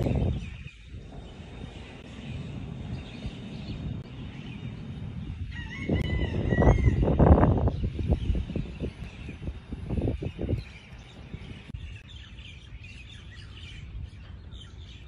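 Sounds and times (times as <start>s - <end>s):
wind rumbling and buffeting: 0.0s - 15.0s.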